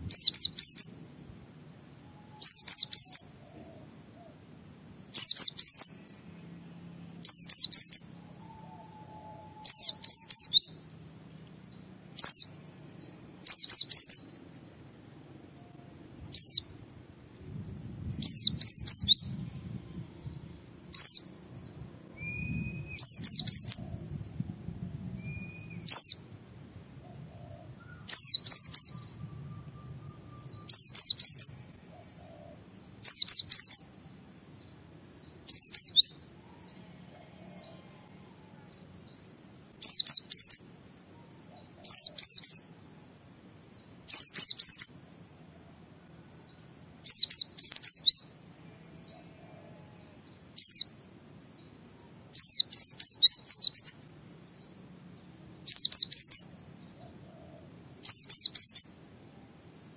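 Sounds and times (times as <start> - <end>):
bird singing high falling chirps: 0.0 - 3.6, 4.9 - 16.9, 17.6 - 43.1, 46.3 - 57.2, 57.9 - 59.9.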